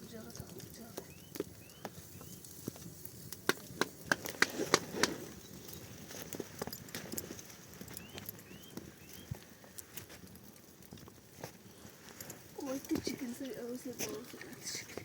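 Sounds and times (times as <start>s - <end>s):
sharp cracks and snaps: 0.0s - 15.0s.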